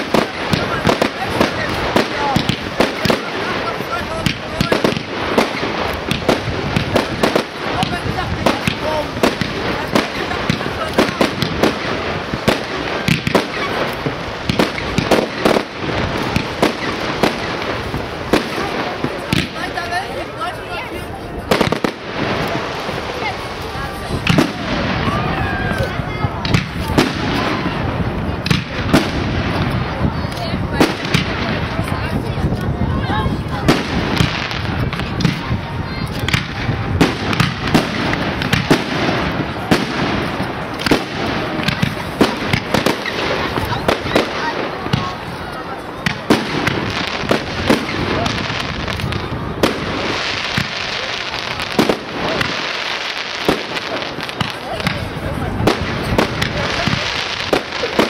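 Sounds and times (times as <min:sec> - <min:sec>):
continuous noisy background: 0:00.0 - 0:58.0.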